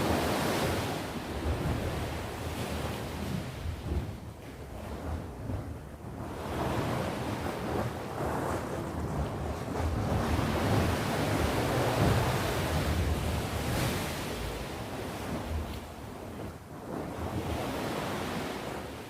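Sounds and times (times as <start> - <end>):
sea waves breaking: 0.0 - 19.0.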